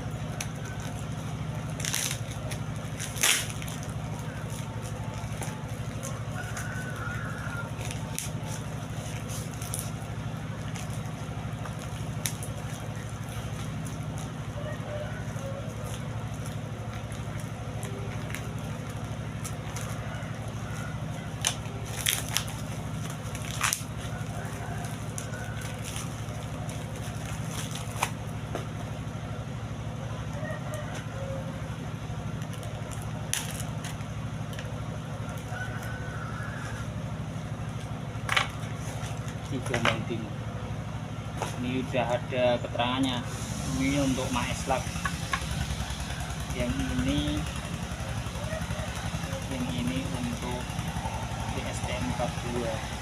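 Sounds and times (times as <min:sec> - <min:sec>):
pulsing low mechanical hum: 0:00.0 - 0:53.0.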